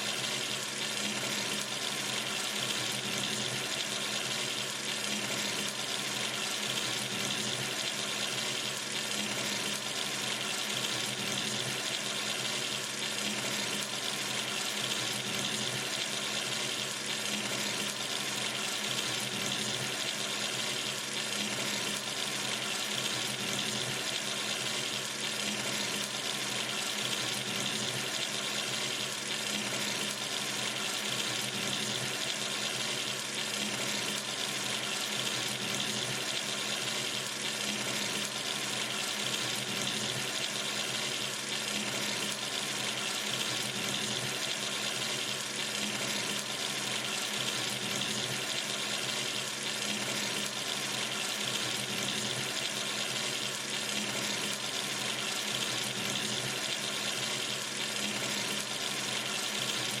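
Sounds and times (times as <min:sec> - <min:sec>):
tap water running: 0:00.0 - 1:00.0.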